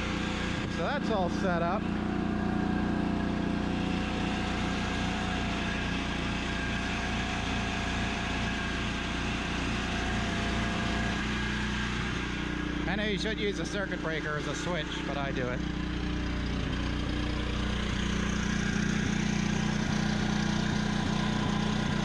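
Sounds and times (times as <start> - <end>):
small generator engine running: 0.0 - 22.0.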